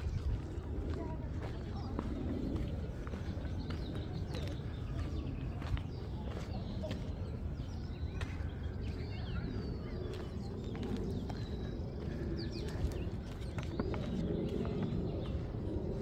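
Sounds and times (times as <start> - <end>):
birds chirping: 0.0 - 16.0
low rumble: 0.0 - 16.0.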